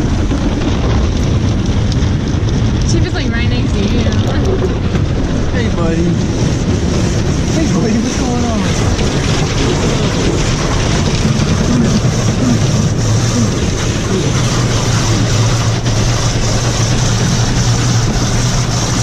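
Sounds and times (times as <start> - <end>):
air and road noise: 0.0 - 19.0.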